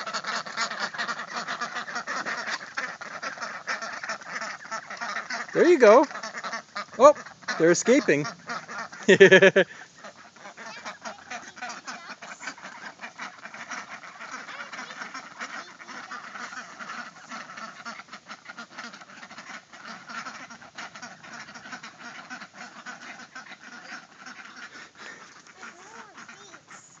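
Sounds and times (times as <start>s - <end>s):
young ducks quacking: 0.0s - 27.0s.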